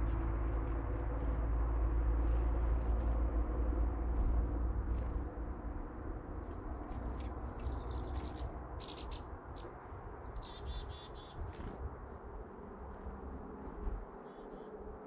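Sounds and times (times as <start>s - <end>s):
steady low rumble: 0.0s - 15.0s
small songbirds chirping: 0.6s - 2.8s, 4.2s - 15.0s.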